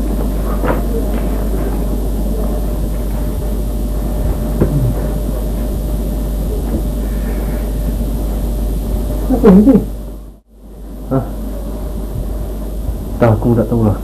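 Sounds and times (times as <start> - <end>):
low hum: 0.0 - 14.0
noisy rumble: 0.0 - 14.0.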